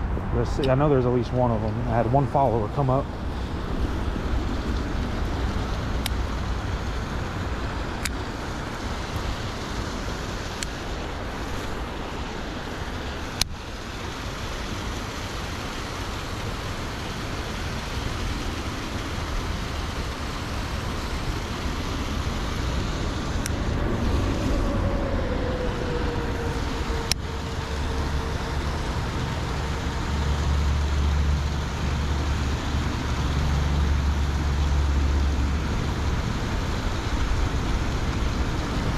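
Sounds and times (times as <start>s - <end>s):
distant road traffic: 0.0s - 38.9s
rushing river water: 0.0s - 38.9s.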